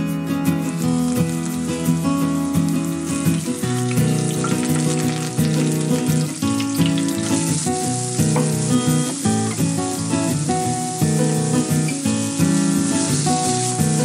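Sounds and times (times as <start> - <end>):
plucked melody background music: 0.0 - 14.0
oil sizzling in a frying pan: 0.4 - 14.0.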